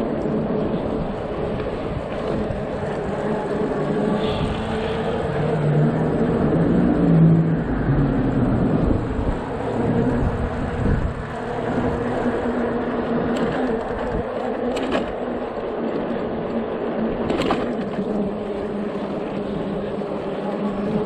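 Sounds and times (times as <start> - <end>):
tyre and wind noise: 0.0 - 21.0.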